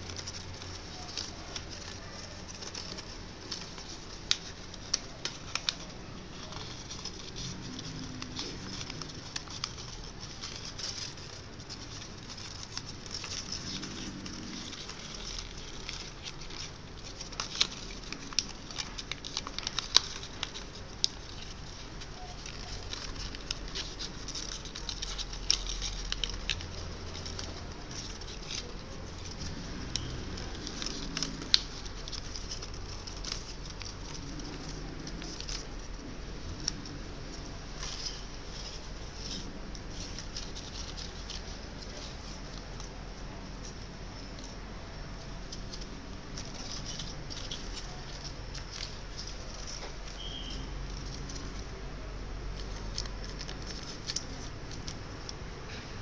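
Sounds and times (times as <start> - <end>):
paper crinkling while folded: 0.0 - 56.0.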